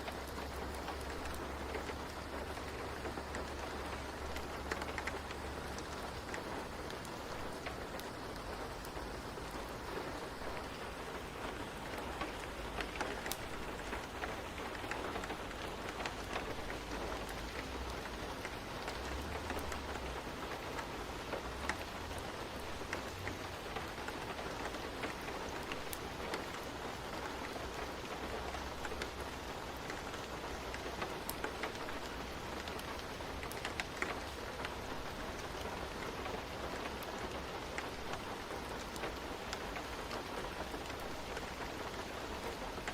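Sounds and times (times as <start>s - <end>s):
rain rushing: 0.0s - 42.9s.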